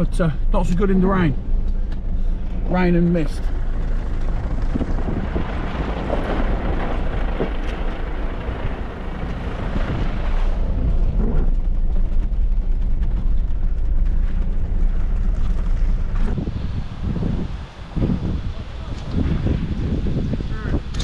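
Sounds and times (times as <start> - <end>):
off-road truck driving: 0.0 - 21.0
wind: 0.0 - 21.0.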